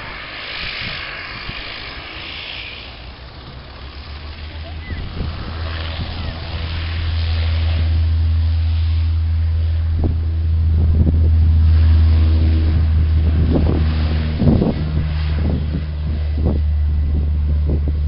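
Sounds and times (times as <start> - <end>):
turboprop airliner engine drone: 0.0 - 18.0
wind buffeting microphone: 0.0 - 18.0.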